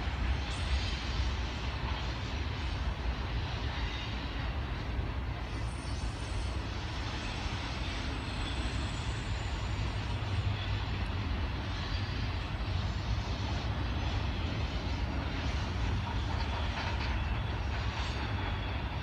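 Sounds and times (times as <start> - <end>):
hiss of rolling noise: 0.0 - 19.0
steel wheels rumbling on rail: 0.0 - 19.0.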